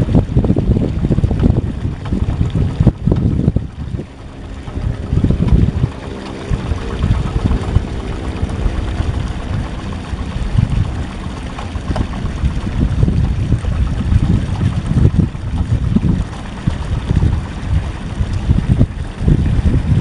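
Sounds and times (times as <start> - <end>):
diesel engine running steadily: 0.0 - 20.0.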